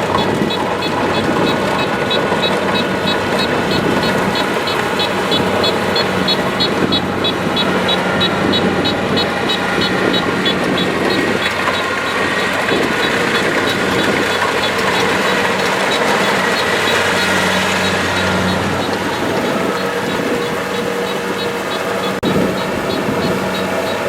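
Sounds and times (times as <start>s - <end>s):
diesel engine running: 0.0s - 24.0s
rapid high-pitched beeping: 0.0s - 24.0s.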